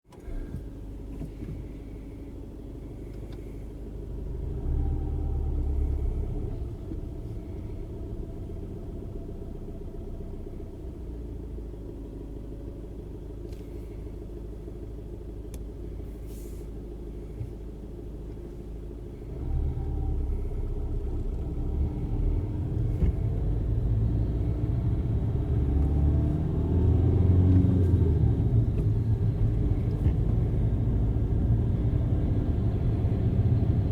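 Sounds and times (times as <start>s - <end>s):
car engine rumbling: 0.0s - 33.9s
whirring grinding clutch noise: 0.1s - 33.9s.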